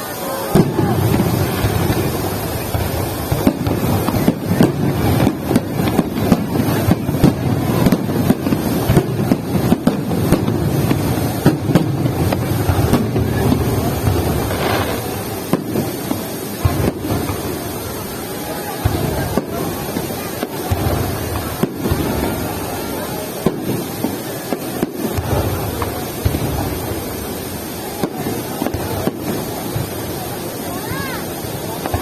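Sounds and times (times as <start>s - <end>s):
fireworks bangs and cracks: 0.0s - 32.0s.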